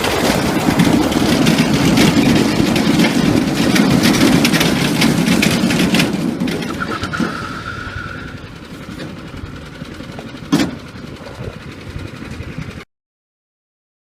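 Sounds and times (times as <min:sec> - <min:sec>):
engine noise: 0:00.0 - 0:12.8.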